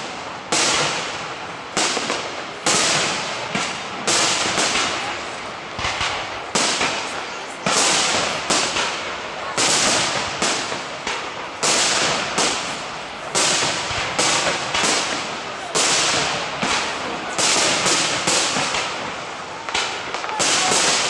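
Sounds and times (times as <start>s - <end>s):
firework hiss: 0.0s - 21.0s
firework shells bursting: 0.6s - 21.0s.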